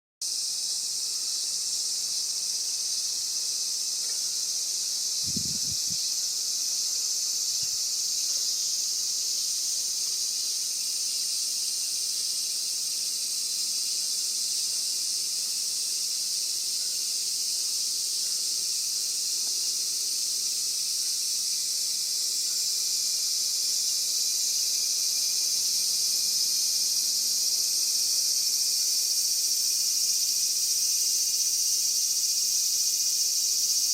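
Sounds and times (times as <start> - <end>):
high-pitched insect chorus: 0.2 - 33.9.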